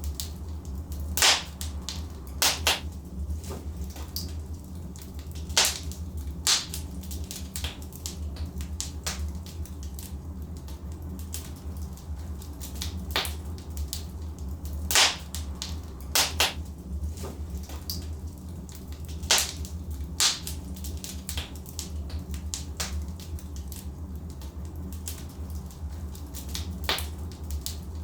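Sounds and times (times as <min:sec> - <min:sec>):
logs crackling in a fireplace: 0:00.0 - 0:28.0
low fire rumble: 0:00.0 - 0:28.0.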